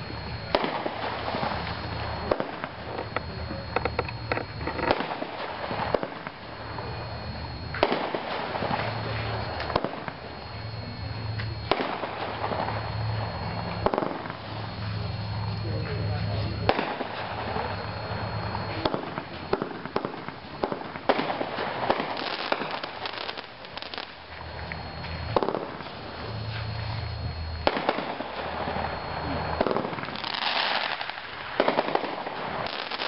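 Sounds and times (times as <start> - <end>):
firework crackling: 0.0 - 33.0
firework shots and bursts: 0.0 - 33.0.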